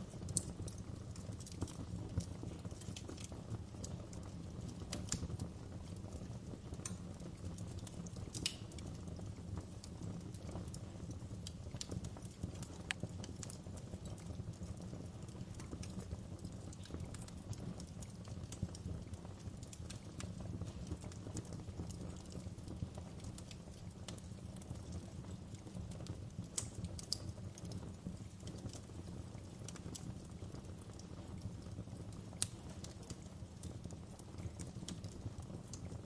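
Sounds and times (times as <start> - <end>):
wood fire burning: 0.0 - 36.0.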